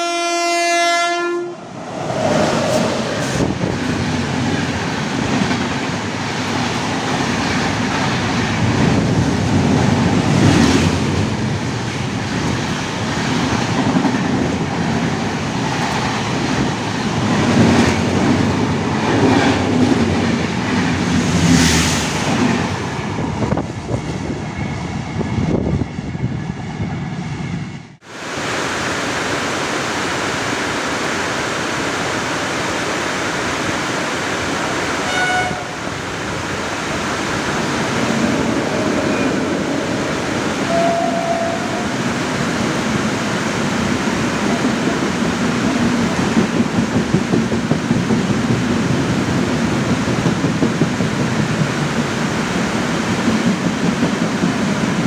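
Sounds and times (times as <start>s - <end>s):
train coaches rumbling and rattling: 0.0s - 27.5s, 29.9s - 55.0s.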